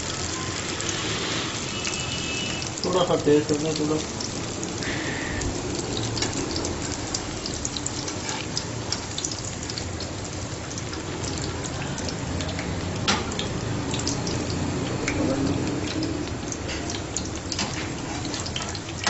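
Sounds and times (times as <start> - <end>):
batter sizzling in hot oil: 0.0 - 19.0.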